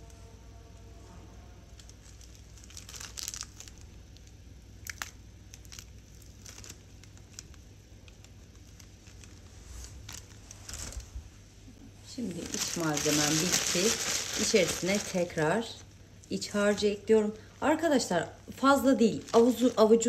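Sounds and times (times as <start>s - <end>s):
plastic bag crinkling: 1.8s - 11.4s, 12.0s - 20.0s.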